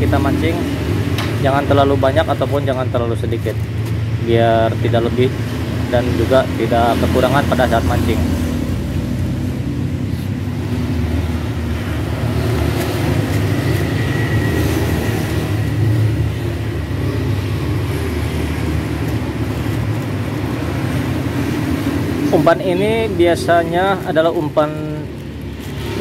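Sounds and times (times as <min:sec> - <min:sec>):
low engine-like drone: 0:04.2 - 0:26.0.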